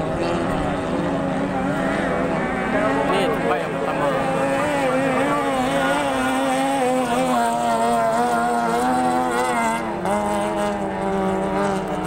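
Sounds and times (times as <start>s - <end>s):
speedboat engine running: 0.0s - 12.0s.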